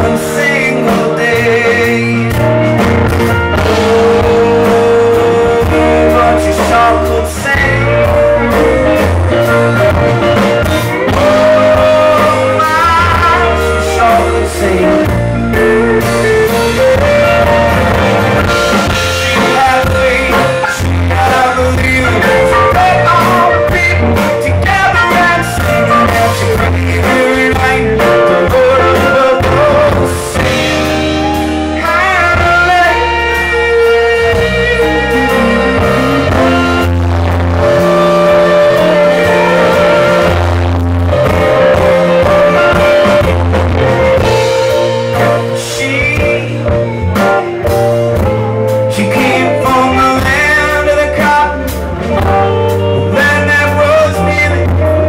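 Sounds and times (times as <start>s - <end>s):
blues-rock band playing: 0.0s - 55.0s
lead guitar bending notes: 0.0s - 55.0s
person singing: 0.0s - 55.0s.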